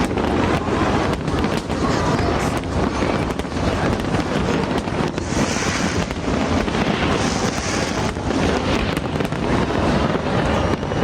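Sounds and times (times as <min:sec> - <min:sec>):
fireworks bangs and crackles: 0:00.0 - 0:11.0
fireworks fizzing hiss: 0:00.0 - 0:11.0.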